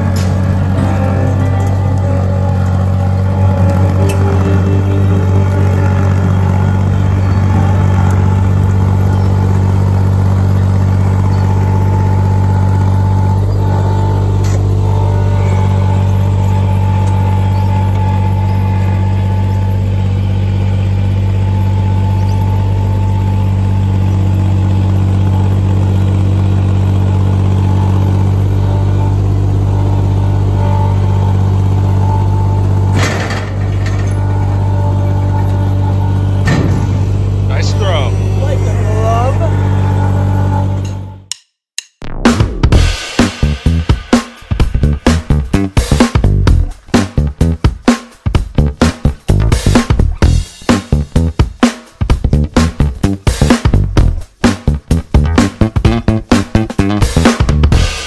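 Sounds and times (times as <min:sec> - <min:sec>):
mini skid steer engine running: 0:00.0 - 0:41.2, 0:42.8 - 0:44.0, 0:44.6 - 0:47.7, 0:48.4 - 0:51.4, 0:52.2 - 0:58.0.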